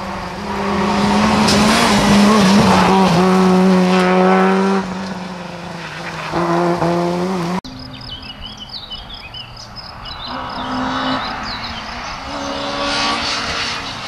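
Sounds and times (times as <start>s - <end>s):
rally car engine at high revs: 0.0s - 8.0s, 10.2s - 14.0s.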